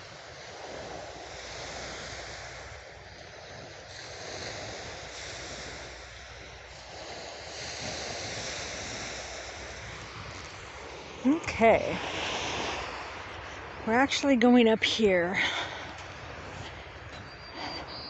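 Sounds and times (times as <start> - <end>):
waves washing on shore: 0.0 - 18.0
wind rumbling on microphone: 0.0 - 18.0.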